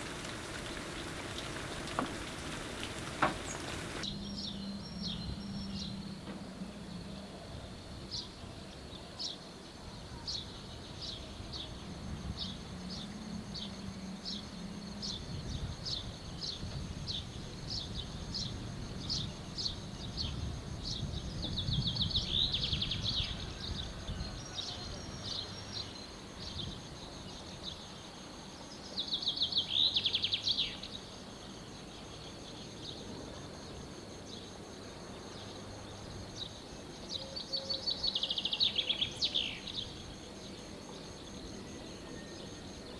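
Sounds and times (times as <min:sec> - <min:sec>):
low background noise: 0:00.0 - 0:42.9.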